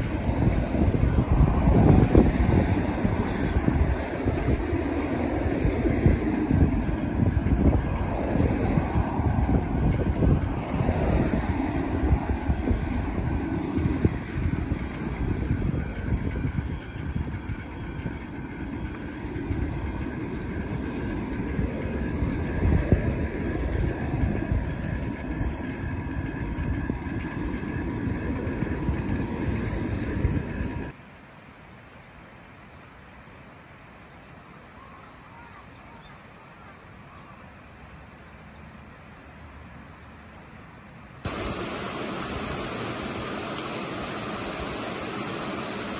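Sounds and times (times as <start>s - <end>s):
vehicle road noise rumble: 0.0s - 31.0s, 37.7s - 45.9s
faint steady whine: 0.0s - 38.2s, 40.4s - 45.9s.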